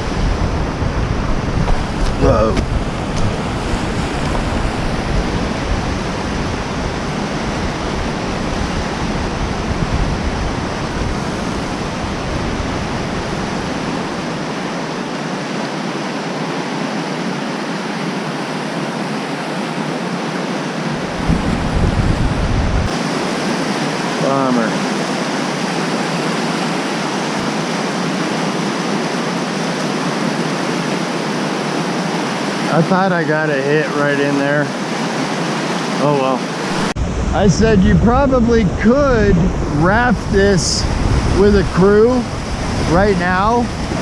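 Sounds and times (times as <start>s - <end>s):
whitewater rapids roaring: 0.0s - 44.0s.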